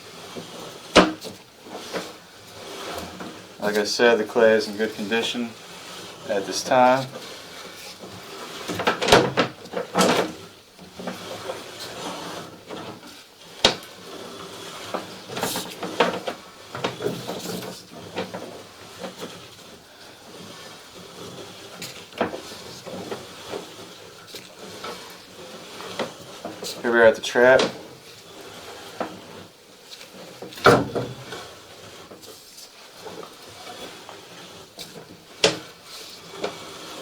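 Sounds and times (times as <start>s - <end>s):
cable knocking and scraping in pipe: 0.4s - 37.0s.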